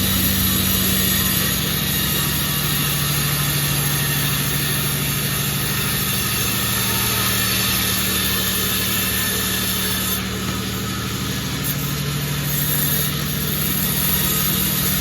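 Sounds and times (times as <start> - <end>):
sawmill machinery hum: 0.0 - 15.0.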